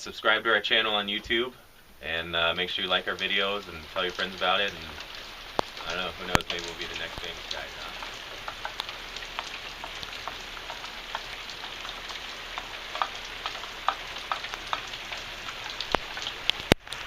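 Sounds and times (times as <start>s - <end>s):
rain pattering on hard surface: 0.0s - 17.0s.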